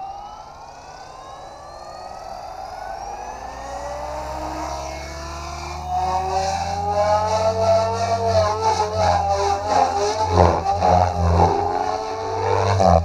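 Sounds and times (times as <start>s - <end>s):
helicopter motor and rotor whine: 0.0s - 13.0s.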